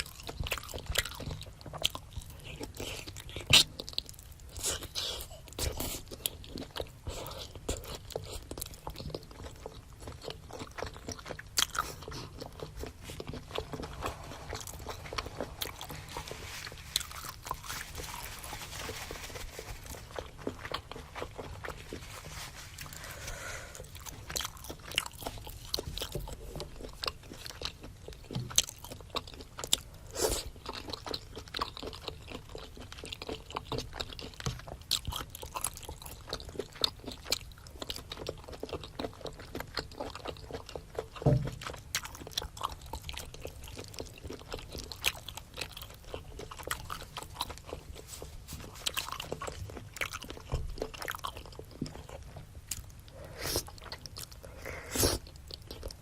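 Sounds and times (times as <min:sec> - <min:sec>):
biting and chewing food: 0:00.0 - 0:56.0.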